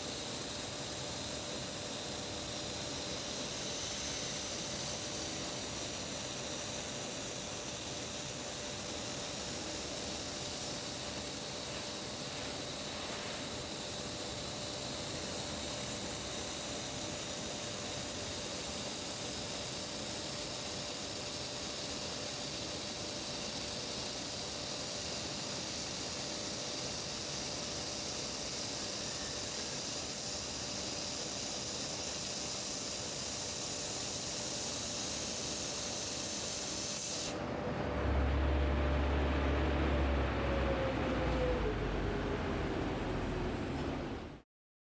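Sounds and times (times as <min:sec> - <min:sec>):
laser cutting jet hissing: 0:00.0 - 0:37.4.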